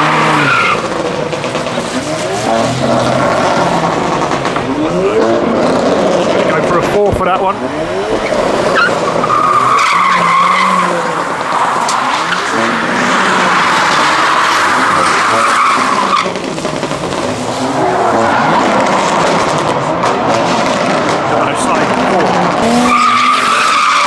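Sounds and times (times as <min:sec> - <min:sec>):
car engine revving: 0:00.0 - 0:24.0
tyres squealing: 0:00.0 - 0:24.0.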